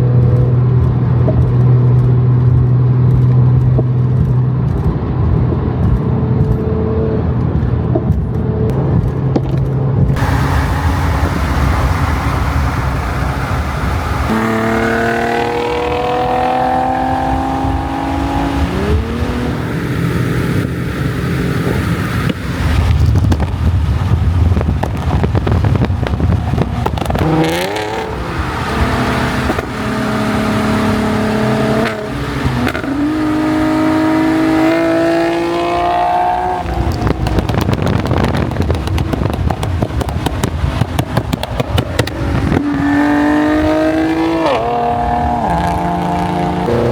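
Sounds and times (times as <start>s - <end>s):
car engines accelerating: 0.0s - 46.9s.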